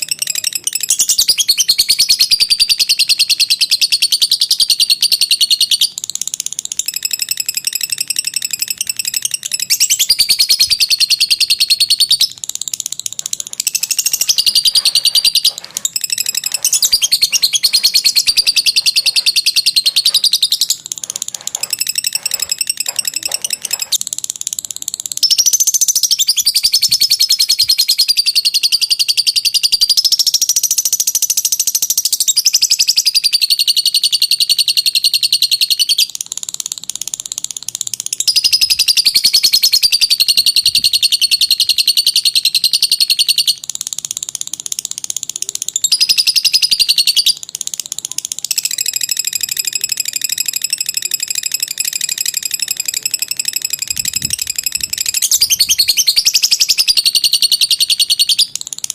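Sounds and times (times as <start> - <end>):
lovebird chattering trills: 0.0 - 58.9.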